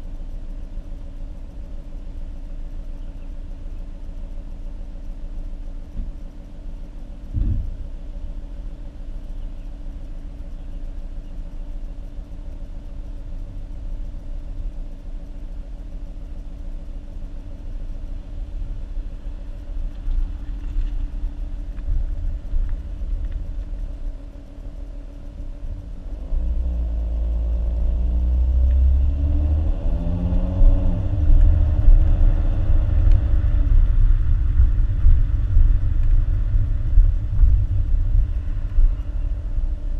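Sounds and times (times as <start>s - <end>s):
car engine exhaust drone: 0.0s - 39.9s.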